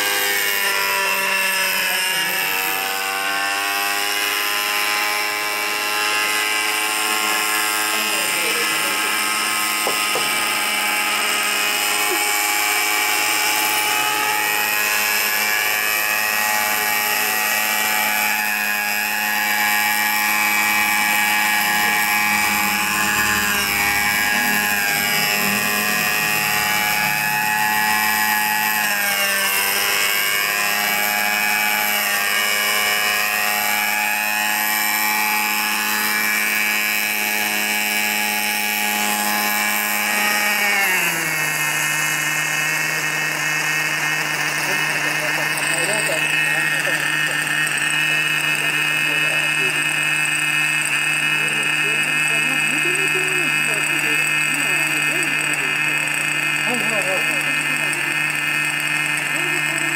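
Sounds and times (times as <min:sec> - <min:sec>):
helicopter rotors turning: 0:00.0 - 0:59.9
model helicopter engine running: 0:00.0 - 0:59.9.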